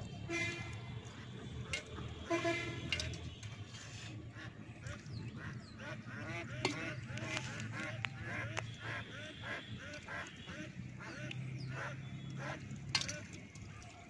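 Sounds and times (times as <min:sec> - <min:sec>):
waterfowl honking: 0:00.3 - 0:03.1, 0:04.3 - 0:13.3.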